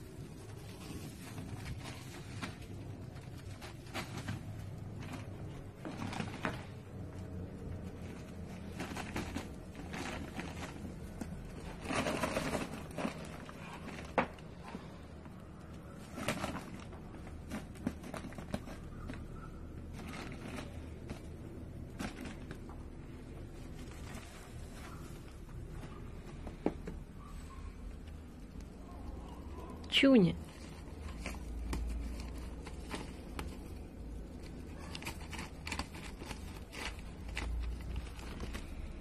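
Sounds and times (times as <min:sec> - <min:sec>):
plastic sheet rustling: 0:00.0 - 0:26.8, 0:30.2 - 0:39.0.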